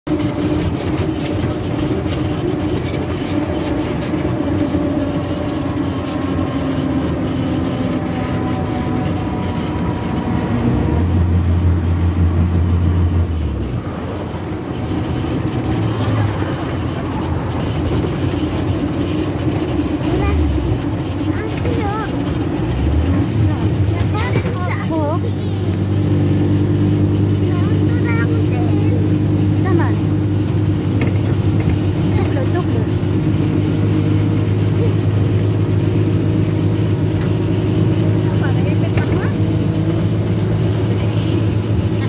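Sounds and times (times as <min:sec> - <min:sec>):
car engine and road noise: 0:00.0 - 0:42.0
deep engine drone: 0:00.0 - 0:42.0.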